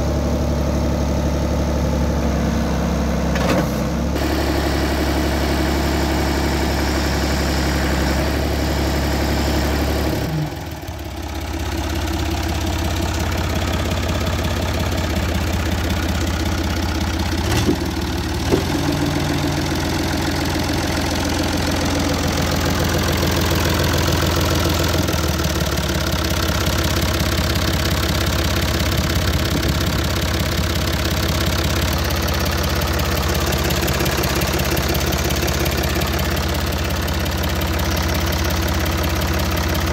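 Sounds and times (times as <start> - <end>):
backhoe engine idling: 0.0 - 39.9.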